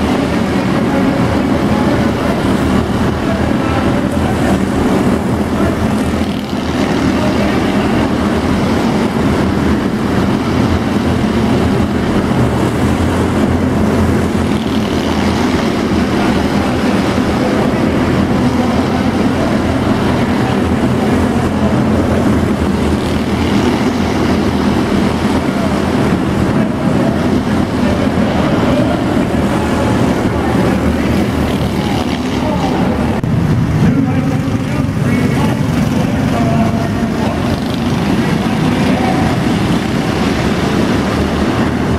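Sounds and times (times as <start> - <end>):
race car engines droning: 0.0 - 41.9.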